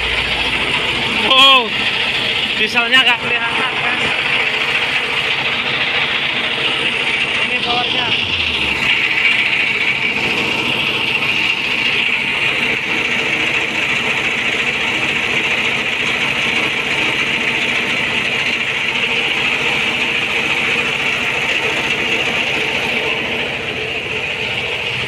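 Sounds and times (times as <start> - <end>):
diesel generator running: 0.0 - 25.0.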